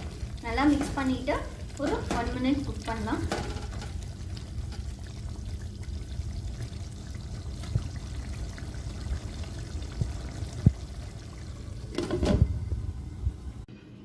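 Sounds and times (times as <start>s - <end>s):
stirring: 0.0s - 12.2s
curry bubbling in a pan: 0.0s - 13.7s.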